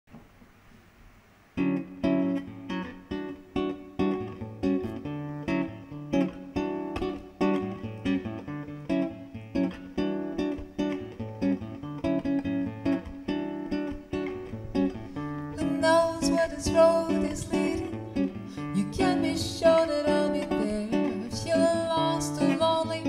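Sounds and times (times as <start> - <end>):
acoustic guitar strumming chords: 1.6 - 23.0.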